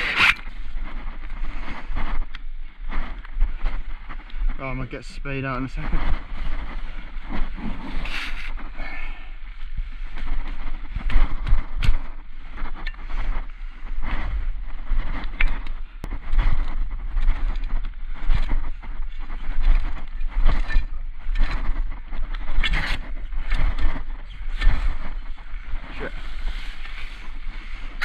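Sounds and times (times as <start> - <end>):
constant low rumble: 0.0 - 28.0
wind buffeting microphone: 0.0 - 28.0.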